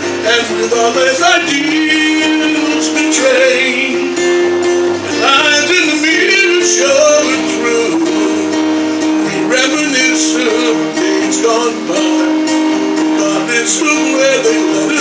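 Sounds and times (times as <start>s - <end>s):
acoustic guitar: 0.0s - 15.0s
man singing: 0.0s - 15.0s.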